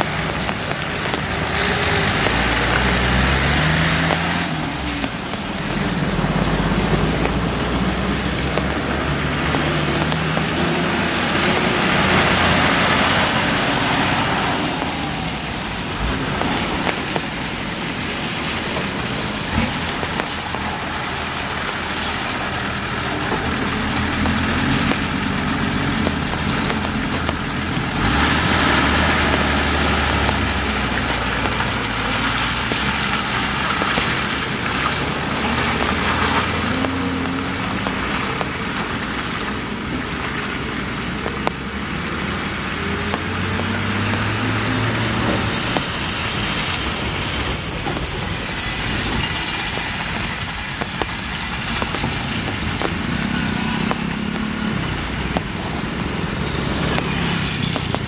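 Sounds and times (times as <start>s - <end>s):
diesel truck engines at low revs: 0.0s - 58.0s
engine revving: 0.0s - 58.0s
tyres splashing through puddles: 0.0s - 58.0s.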